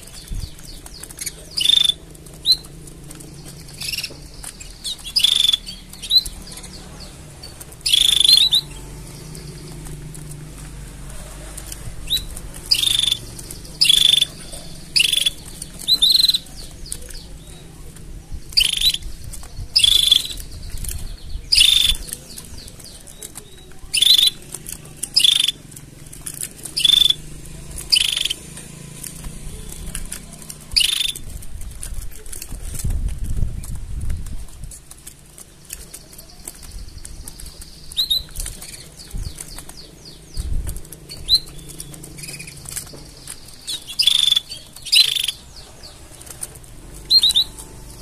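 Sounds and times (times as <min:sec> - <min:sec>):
canary chirping: 0:00.0 - 0:48.0.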